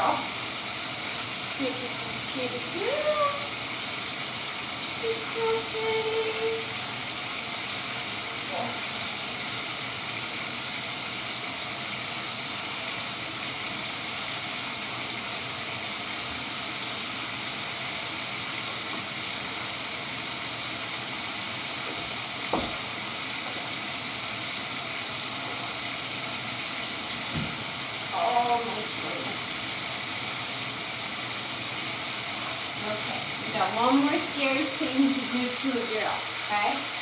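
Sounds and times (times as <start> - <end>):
water running into tub: 0.0 - 37.0.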